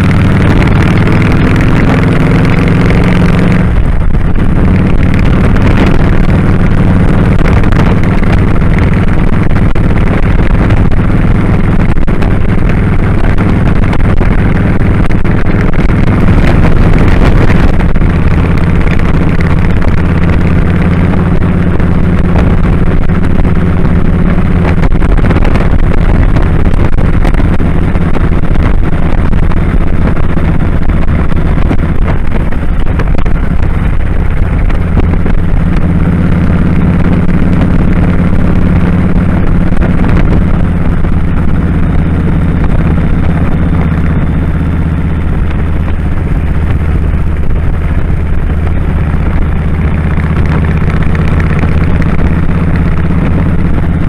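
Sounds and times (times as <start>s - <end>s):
motorcycle engine running: 0.0s - 54.0s
wind rush over microphone: 0.0s - 54.0s.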